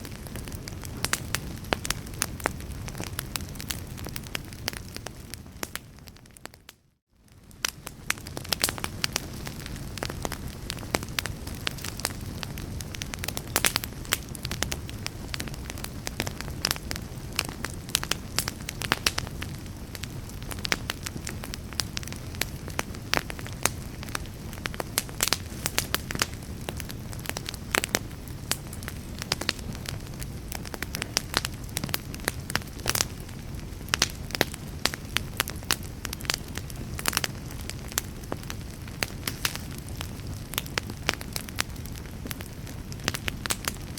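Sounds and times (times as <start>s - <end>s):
fireplace fire crackling: 0.0s - 43.9s.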